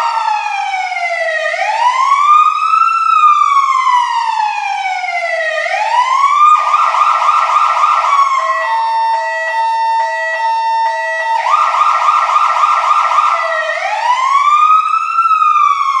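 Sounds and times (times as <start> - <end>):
fire truck electronic siren: 0.0 - 16.0.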